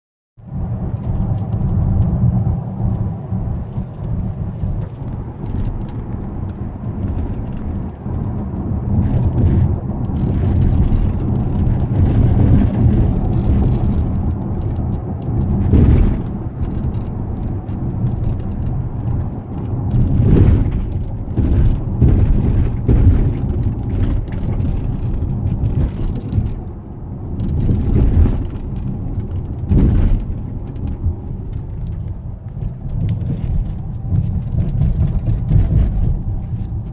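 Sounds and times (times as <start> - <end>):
road rumble inside car: 0.4 - 36.9.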